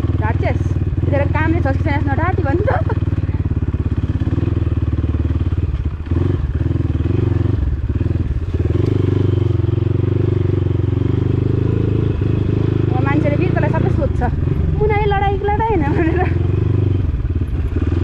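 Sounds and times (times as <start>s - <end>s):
dirt bike engine at low revs: 0.0s - 18.0s.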